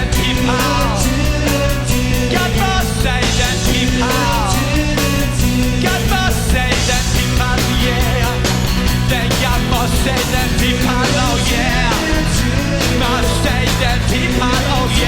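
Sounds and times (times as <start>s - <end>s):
bass line: 0.0s - 15.0s
drums and cymbals: 0.0s - 15.0s.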